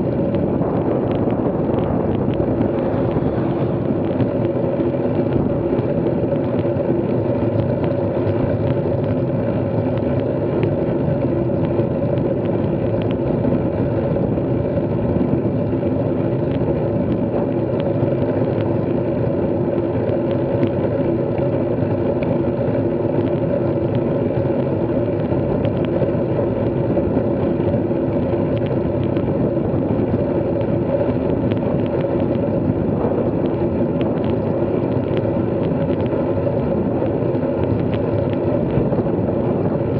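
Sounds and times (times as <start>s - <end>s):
road and wind noise: 0.0s - 39.9s
steady hum from bike: 0.0s - 39.9s.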